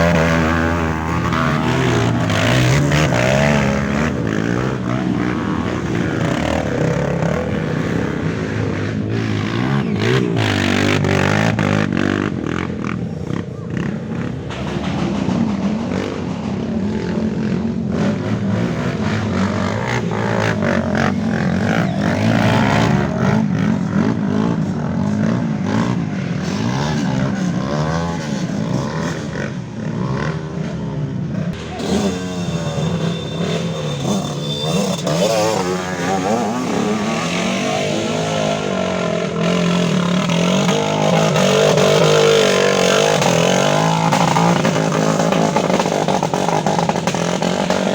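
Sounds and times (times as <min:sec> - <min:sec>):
motorcycles revving: 0:00.0 - 0:47.9.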